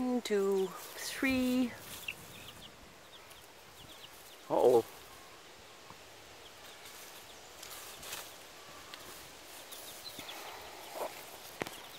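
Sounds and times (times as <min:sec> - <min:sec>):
rustling in dry leaves: 0:00.0 - 0:11.9.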